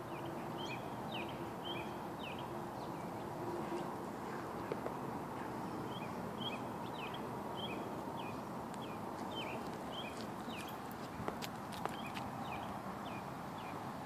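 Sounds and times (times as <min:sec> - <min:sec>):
songbird chirping: 0:00.0 - 0:13.9.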